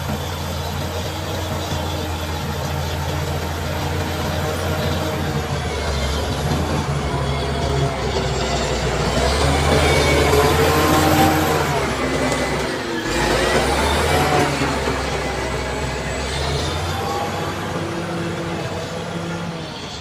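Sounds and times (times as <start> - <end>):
bulldozer diesel engine under load: 0.0 - 20.0
high whine: 0.0 - 20.0.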